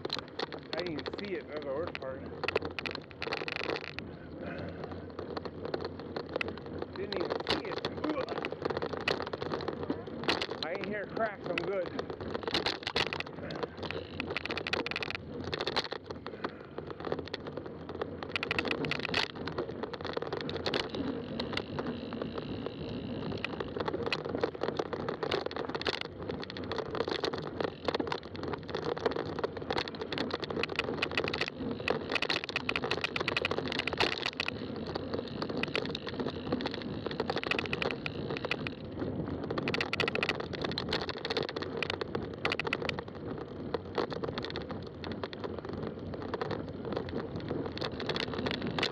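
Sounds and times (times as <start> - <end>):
bike rattling and knocking: 0.0 - 48.9
bike tyre noise on trail: 0.0 - 48.9.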